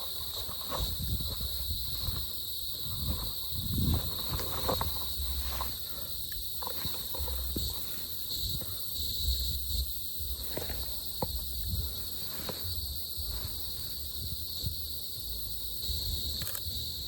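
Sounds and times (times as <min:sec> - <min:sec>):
footsteps and rustling on a trail: 0:00.0 - 0:17.0
high-pitched insect chorus: 0:00.0 - 0:17.0.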